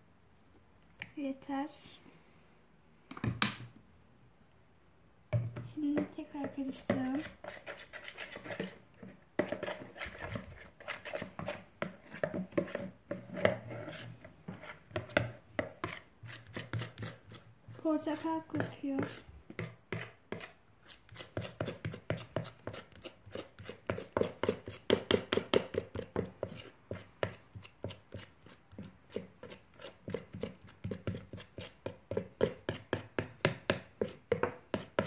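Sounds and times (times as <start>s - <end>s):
spoon stirring slime in bowl: 5.3s - 35.0s.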